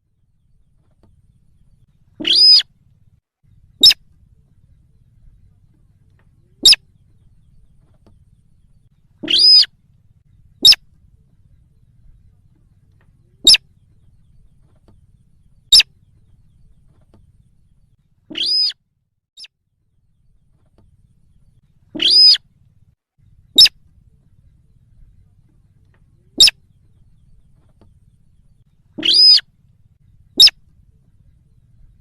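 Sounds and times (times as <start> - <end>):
recorded bird calls: 0.0 - 18.8, 19.4 - 32.0.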